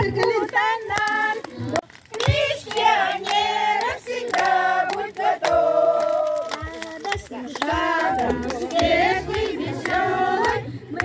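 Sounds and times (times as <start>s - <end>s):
sharp claps or clicks: 0.0s - 11.0s.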